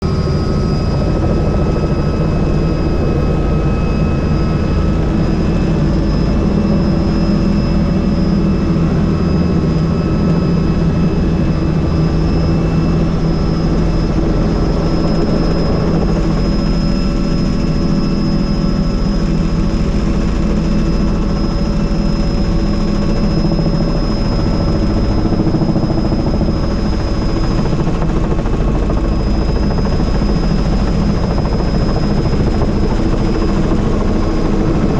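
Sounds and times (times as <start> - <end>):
helicopter rotor noise: 0.0 - 34.9
high engine whine: 0.0 - 34.9.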